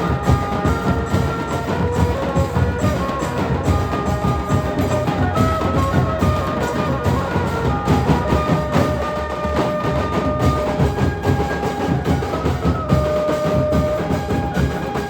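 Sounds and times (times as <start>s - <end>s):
fast dhol drumming: 0.0s - 15.0s.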